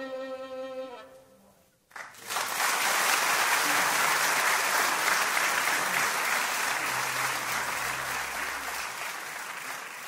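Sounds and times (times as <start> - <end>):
audience applauding: 1.9 - 10.0.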